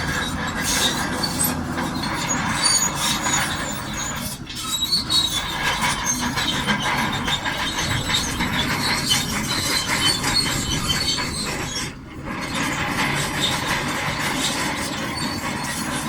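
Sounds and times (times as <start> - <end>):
bulldozer engine running: 0.0 - 16.0
steel tracks clanking and squeaking: 0.0 - 16.0.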